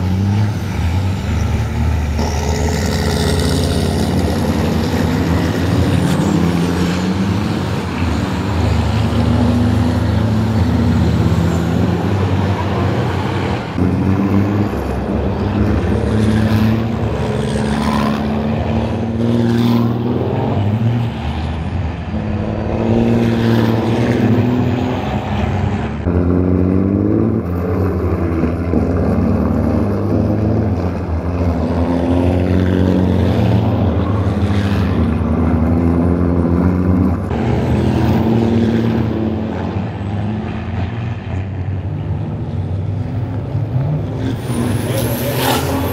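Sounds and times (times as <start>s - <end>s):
truck engines revving hard: 0.0s - 45.9s.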